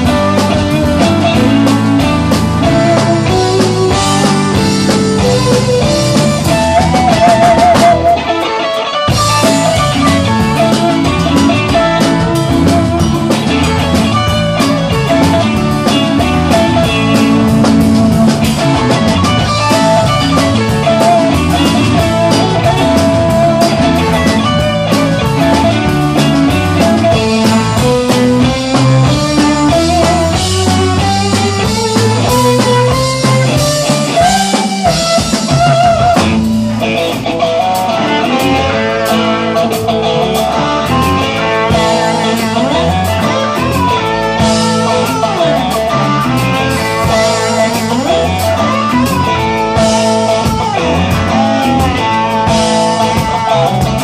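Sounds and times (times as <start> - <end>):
electric guitar lead: 0.0 - 54.0
rock accompaniment: 0.0 - 54.0.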